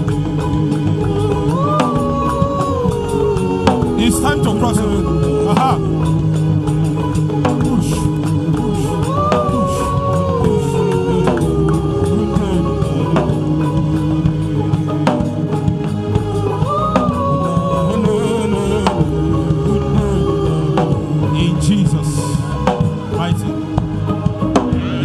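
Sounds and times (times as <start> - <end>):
low bass: 0.0 - 25.0
slow worship music: 0.0 - 25.0.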